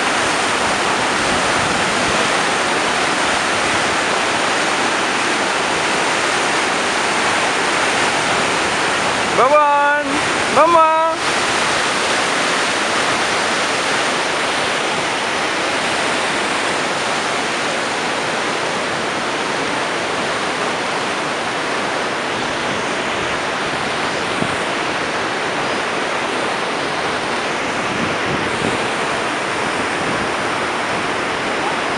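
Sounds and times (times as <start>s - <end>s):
river rushing over rocks: 0.0s - 31.9s.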